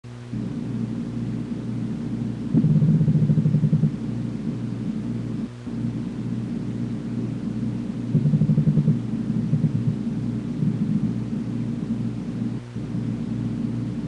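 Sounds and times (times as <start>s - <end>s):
steady low hum: 0.1s - 14.0s
catfish rumble pulsing: 0.4s - 14.0s.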